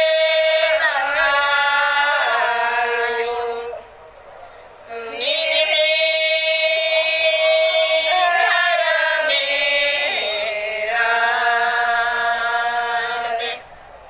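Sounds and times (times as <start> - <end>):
prayer chant in long notes: 0.0 - 14.0.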